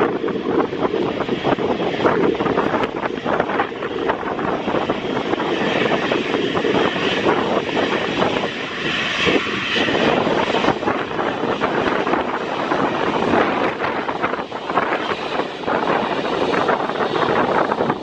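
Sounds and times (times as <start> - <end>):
jet engines passing: 0.0 - 18.0
wind buffeting microphone: 0.0 - 18.0.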